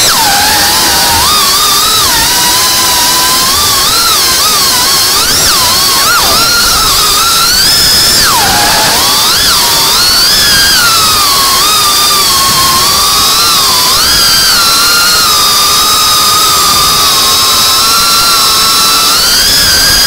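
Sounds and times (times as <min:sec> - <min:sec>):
drone motors whining: 0:00.0 - 0:20.0
loud steady hiss: 0:00.0 - 0:20.0.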